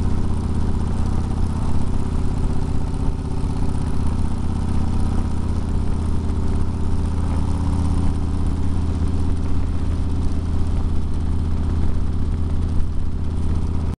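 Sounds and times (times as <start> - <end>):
road noise: 0.0 - 14.0
vehicle engine drone: 0.0 - 14.0.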